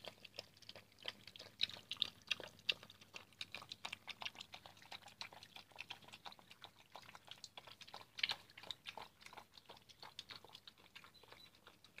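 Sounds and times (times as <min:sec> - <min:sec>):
puppies chewing and crunching: 0:00.0 - 0:12.0.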